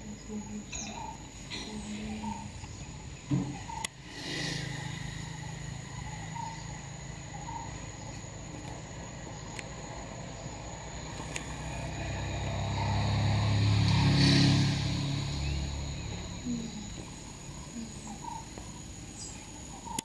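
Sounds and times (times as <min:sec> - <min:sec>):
shrill insect chorus: 0:00.0 - 0:20.0.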